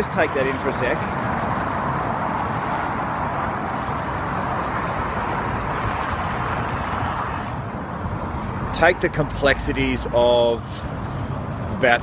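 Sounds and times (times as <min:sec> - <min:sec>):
dense city traffic: 0:00.0 - 0:12.0.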